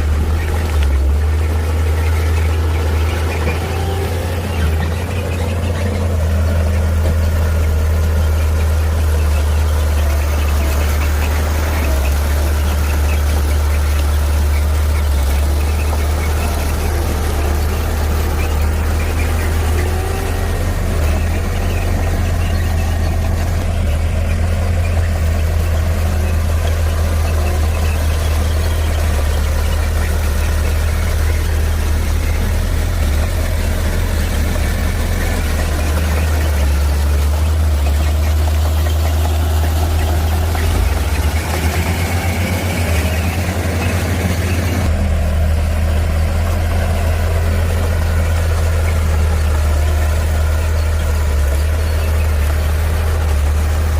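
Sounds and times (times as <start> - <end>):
heavy diesel engine droning: 0.0 - 53.9.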